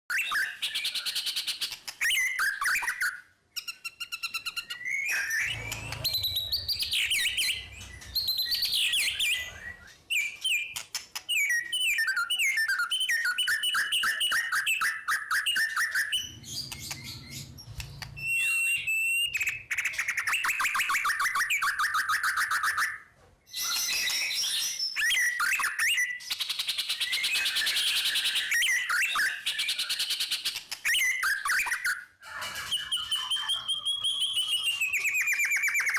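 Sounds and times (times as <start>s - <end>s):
bird singing rolling song: 0.1s - 35.9s.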